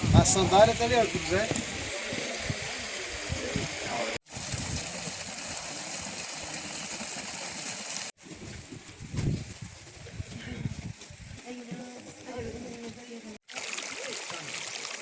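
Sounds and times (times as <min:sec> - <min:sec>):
water flowing through pools: 0:00.0 - 0:10.1, 0:11.0 - 0:15.0.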